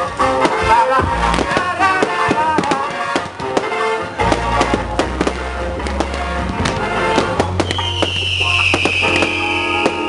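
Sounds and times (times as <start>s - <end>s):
fireworks bangs and crackles: 0.0s - 10.0s
music with deep bass: 0.0s - 10.0s.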